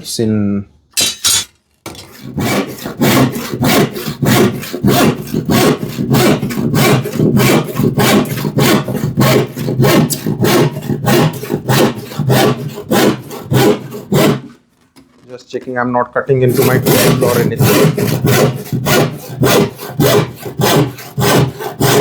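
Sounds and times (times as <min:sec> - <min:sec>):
hand saw cutting plywood: 0:01.9 - 0:14.6, 0:16.4 - 0:22.0.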